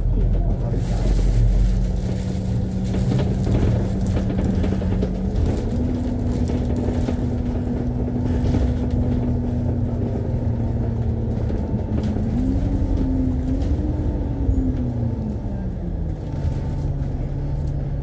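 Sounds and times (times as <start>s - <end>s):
bus engine rumble and whine: 0.0s - 18.0s.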